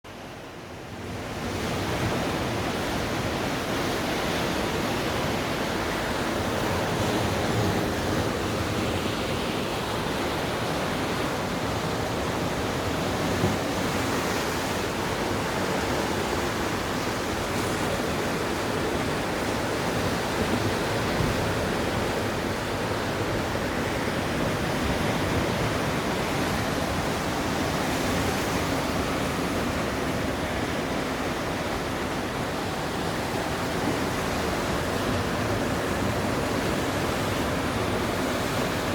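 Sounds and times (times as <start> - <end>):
wind: 0.0 - 38.9
heavy surf rushing: 0.2 - 38.9.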